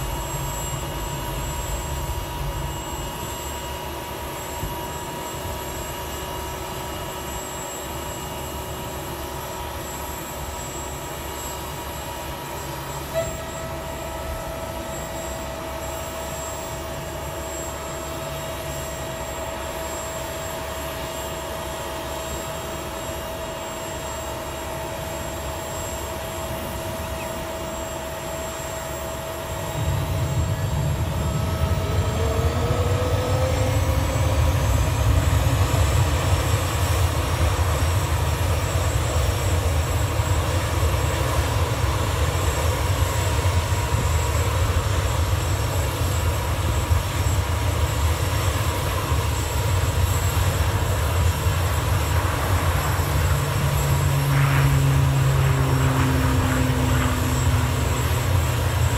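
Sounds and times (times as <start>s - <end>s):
helicopter rotor rumble: 0.0s - 58.9s
helicopter turbine whine: 0.0s - 58.9s.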